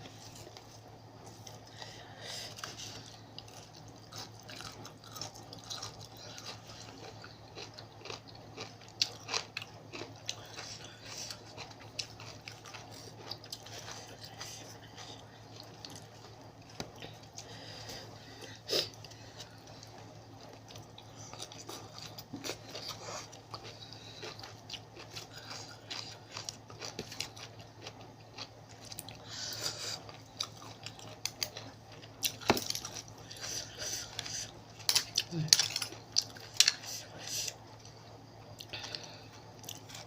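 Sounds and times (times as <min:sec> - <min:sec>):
person chewing: 0:00.0 - 0:40.0.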